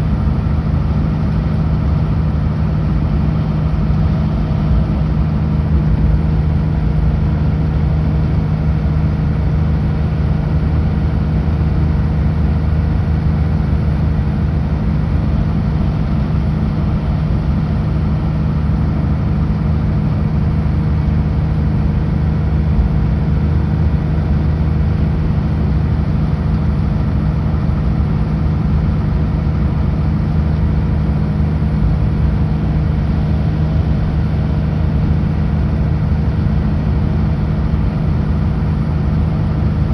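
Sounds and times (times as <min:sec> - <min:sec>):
road and tyre noise: 0:00.0 - 0:39.9
truck diesel engine drone: 0:00.0 - 0:39.9.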